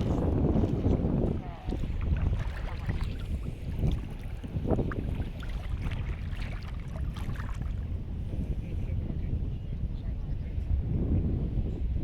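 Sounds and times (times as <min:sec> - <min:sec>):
water: 0:00.0 - 0:12.0
wind: 0:00.0 - 0:12.0
wind rumbling on microphone: 0:00.0 - 0:12.0.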